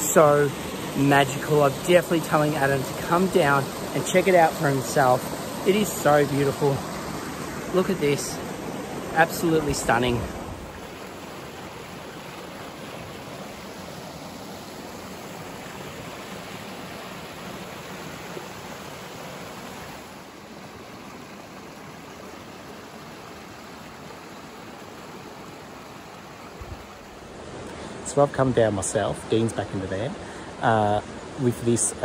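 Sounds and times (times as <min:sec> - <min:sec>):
creek water rushing over rocks: 0:00.0 - 0:32.0.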